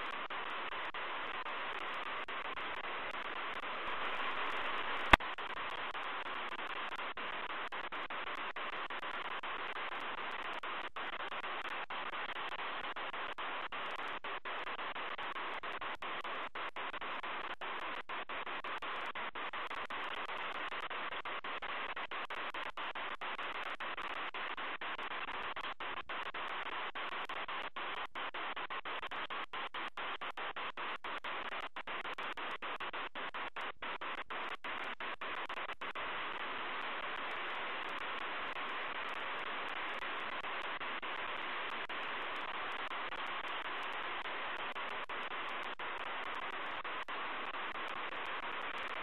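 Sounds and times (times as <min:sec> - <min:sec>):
static hiss: 0:00.0 - 0:49.0.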